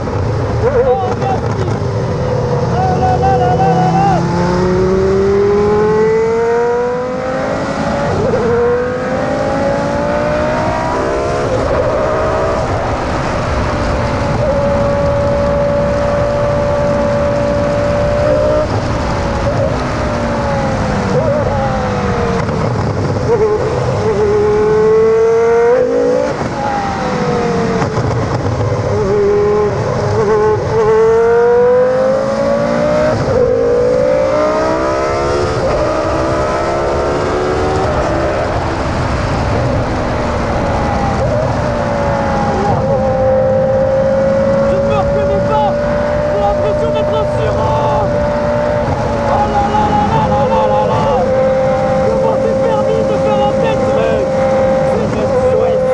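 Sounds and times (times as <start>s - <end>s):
race car engine at high revs: 0.0s - 55.9s.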